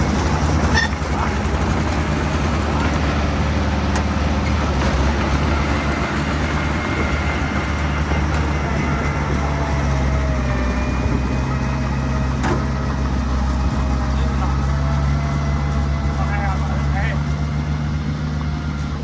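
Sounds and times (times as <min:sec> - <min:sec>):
diesel engine of heavy machinery: 0:00.0 - 0:19.0.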